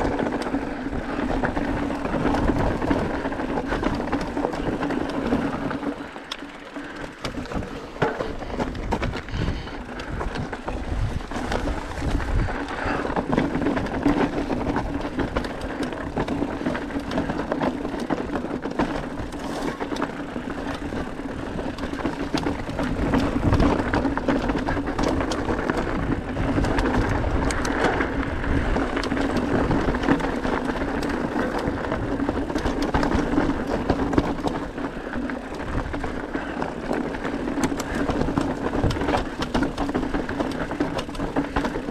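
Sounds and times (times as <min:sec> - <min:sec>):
bike tyres crunching over rocks: 0:00.0 - 0:41.9
rattle of small knocks from bike: 0:00.0 - 0:41.9.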